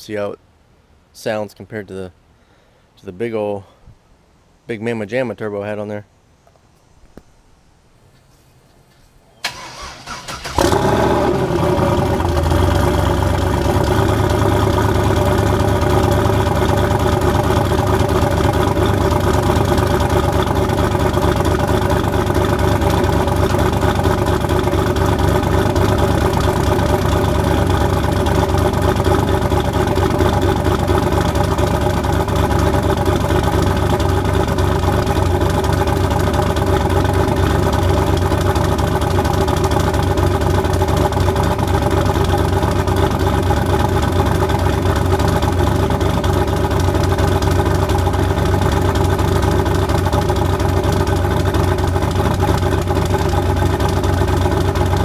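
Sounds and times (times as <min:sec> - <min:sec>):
engine starting and idling: 0:09.4 - 0:55.0.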